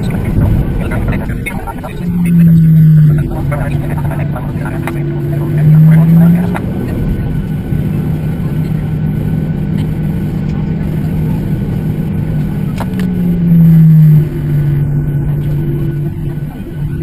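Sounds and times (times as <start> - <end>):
jet engine hum in cabin: 0.0 - 17.0.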